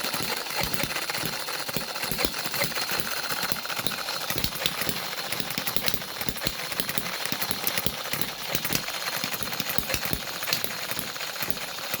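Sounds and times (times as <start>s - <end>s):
engine running with uneven thumps: 0.0s - 12.0s.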